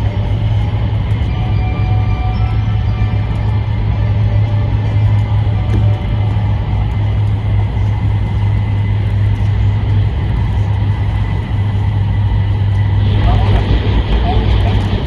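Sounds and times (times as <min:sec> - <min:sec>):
train rumbling at speed: 0:00.0 - 0:15.0.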